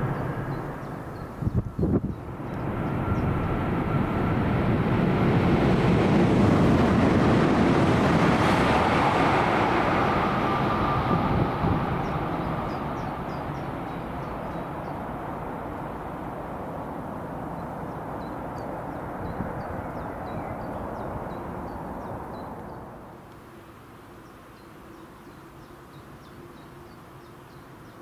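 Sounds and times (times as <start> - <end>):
electric train rumbling: 0.0 - 23.3.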